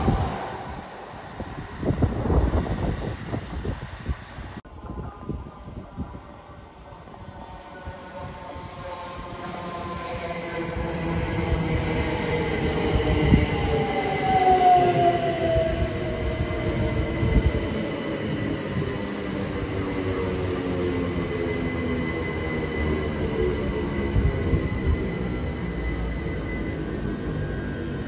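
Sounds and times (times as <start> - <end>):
electric train whine: 0.0 - 28.0.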